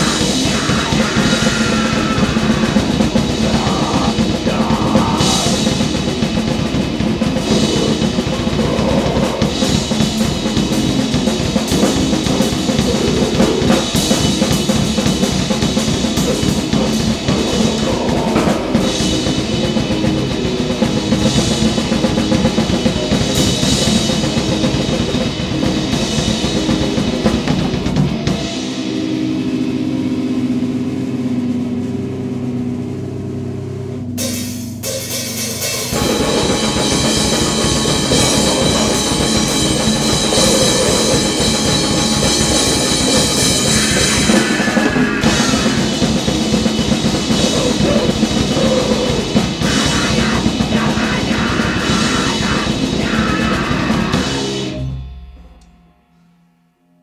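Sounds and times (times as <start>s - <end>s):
noise-grind band playing: 0.0s - 55.6s.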